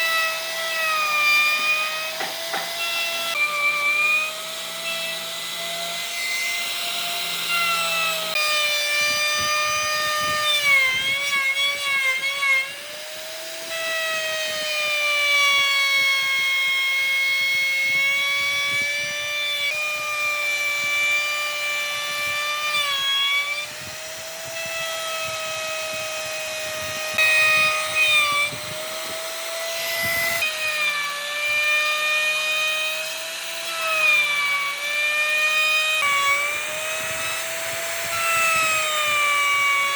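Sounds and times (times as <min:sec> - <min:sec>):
power tool motor whining: 0:00.0 - 0:39.9
rough wood cutting noise: 0:00.0 - 0:39.9.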